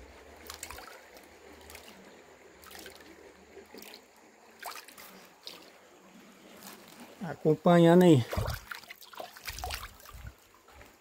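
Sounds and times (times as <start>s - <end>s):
faint trickling water: 0.0s - 11.0s
bait splashing into river: 0.3s - 7.2s, 8.2s - 10.4s.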